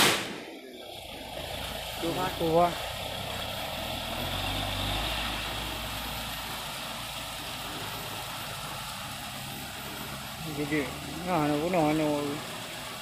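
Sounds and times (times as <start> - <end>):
vehicle engine running: 0.4 - 13.0.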